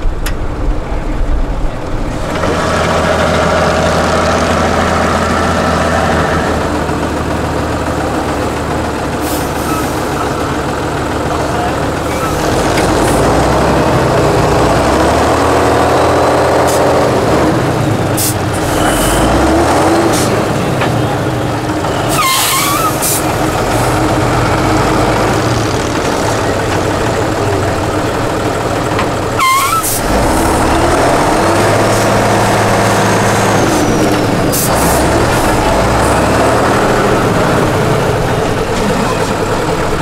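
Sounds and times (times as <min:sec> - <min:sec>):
diesel truck engine revving: 0:00.0 - 0:40.0.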